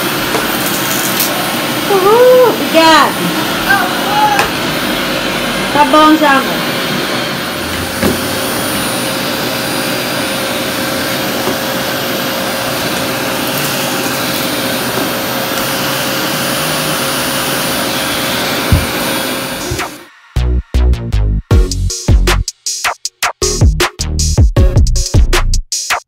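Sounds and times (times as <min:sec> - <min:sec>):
vacuum cleaner running: 0:00.0 - 0:21.2.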